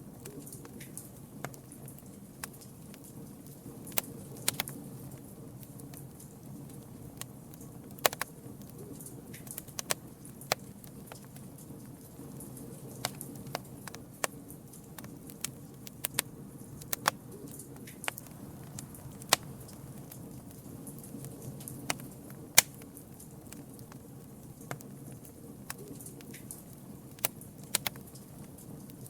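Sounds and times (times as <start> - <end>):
low rush of flames: 0.0 - 29.0
wood crackling and popping: 0.0 - 29.0.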